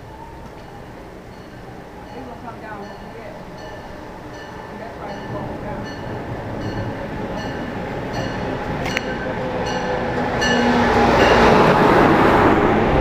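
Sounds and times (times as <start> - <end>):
passenger train passing: 0.0 - 13.0.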